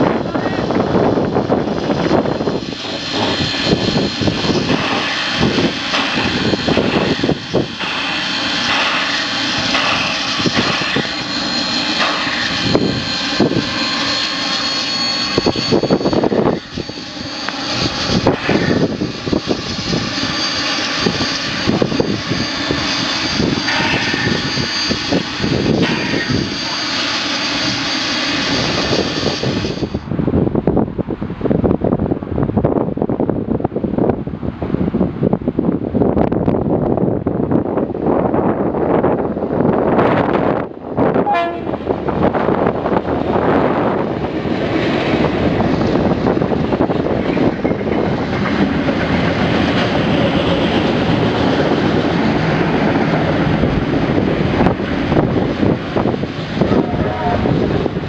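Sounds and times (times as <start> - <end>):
steam locomotive rushing: 0.0 - 58.0.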